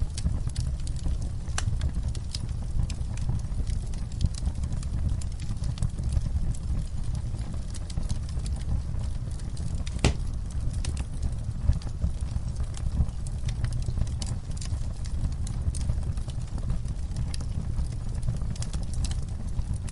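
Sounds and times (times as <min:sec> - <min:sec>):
fire pops and snaps: 0:00.0 - 0:19.9
loud crack from fire: 0:00.0 - 0:19.9
wood fire crackling: 0:00.0 - 0:19.9.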